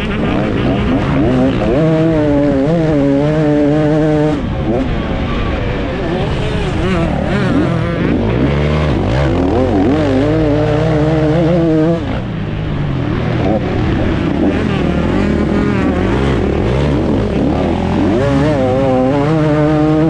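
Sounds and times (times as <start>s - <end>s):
two-stroke engine revving hard: 0.0s - 20.0s.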